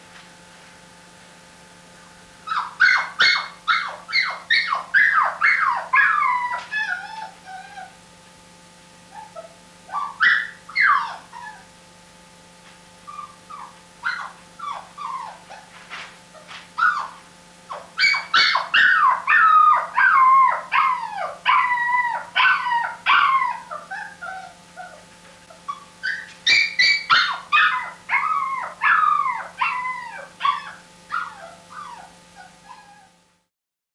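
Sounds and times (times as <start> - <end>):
dog whining and whimpering: 2.5 - 8.0, 9.1 - 11.7, 13.1 - 33.2.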